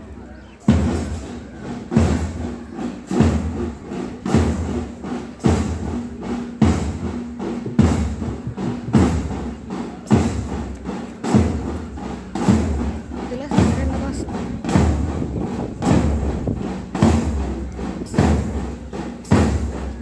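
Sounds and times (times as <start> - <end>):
marching drums beating: 0.1 - 20.0
heavy bass drum strokes: 0.7 - 20.0.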